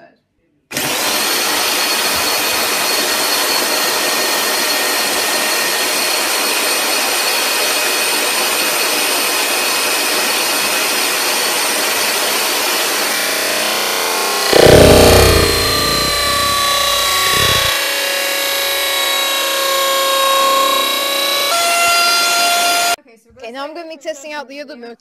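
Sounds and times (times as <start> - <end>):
vacuum cleaner motor whine: 0.7 - 23.0.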